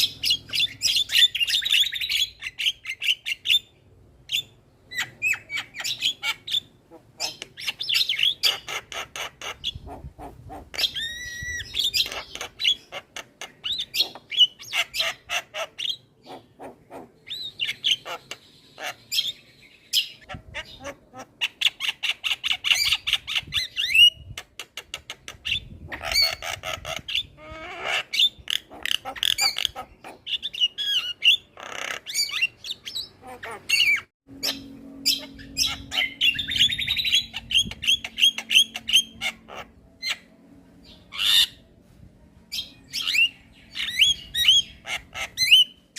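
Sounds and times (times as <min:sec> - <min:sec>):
bird chattering and whistling: 0:00.0 - 0:40.3, 0:42.5 - 0:45.9.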